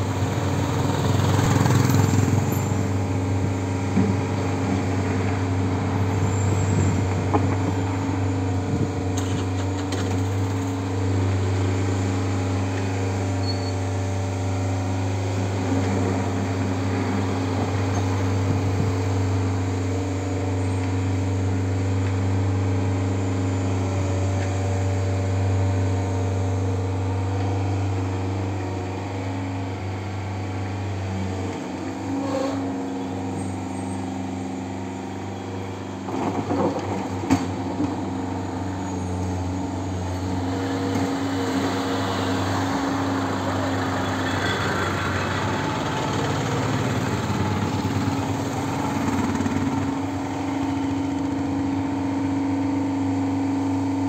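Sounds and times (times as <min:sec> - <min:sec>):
diesel loader engine running: 0:00.0 - 0:54.0.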